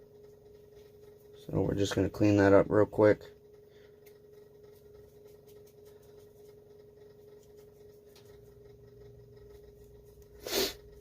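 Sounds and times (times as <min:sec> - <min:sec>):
steady hum: 0:00.0 - 0:11.0
light scratching and ticks: 0:00.1 - 0:11.0.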